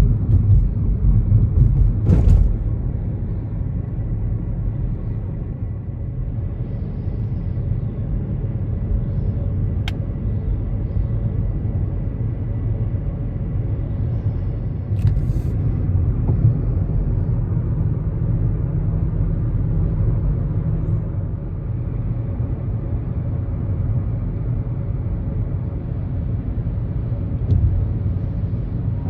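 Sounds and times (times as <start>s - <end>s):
car driving rumble: 0.0s - 29.0s.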